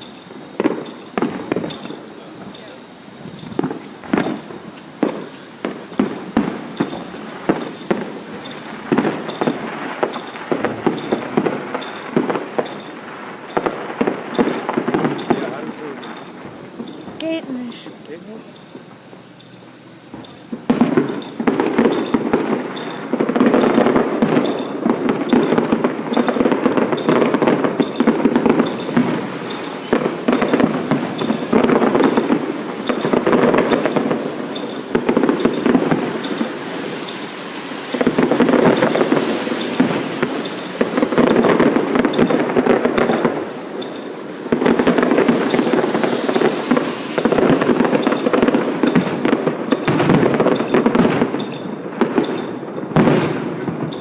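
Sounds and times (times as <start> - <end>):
fireworks crackling bangs: 0.0 - 54.0.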